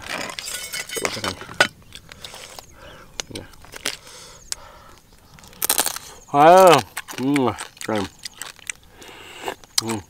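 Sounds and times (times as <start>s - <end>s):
crab shells cracking and crunching: 0.0s - 10.0s.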